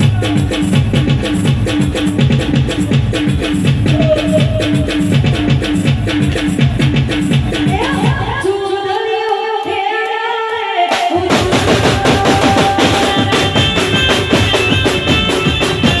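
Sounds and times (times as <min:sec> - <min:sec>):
drums and percussion beat: 0:00.0 - 0:09.8, 0:10.9 - 0:16.0.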